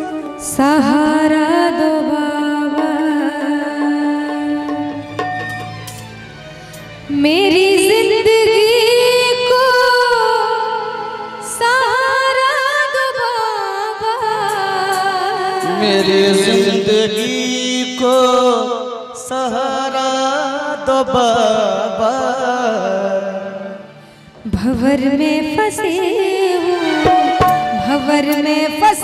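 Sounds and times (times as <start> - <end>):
woman singing into a microphone: 0.0 - 5.1, 7.1 - 16.8, 18.0 - 23.8, 24.4 - 29.0
musical accompaniment: 0.0 - 29.0.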